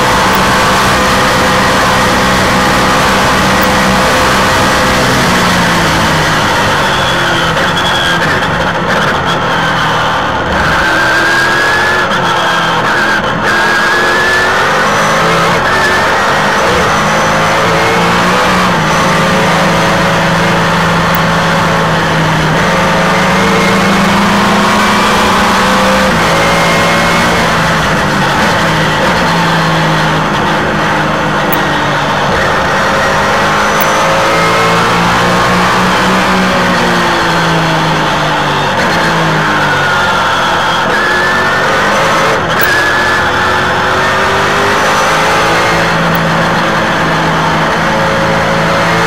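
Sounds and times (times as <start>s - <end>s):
race car engine: 0.0s - 49.0s.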